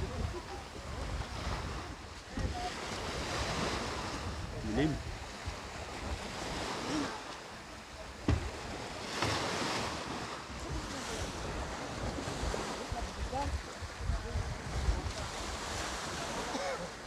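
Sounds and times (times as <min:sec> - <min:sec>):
wind rushing over microphone: 0:00.0 - 0:06.9, 0:08.2 - 0:16.3.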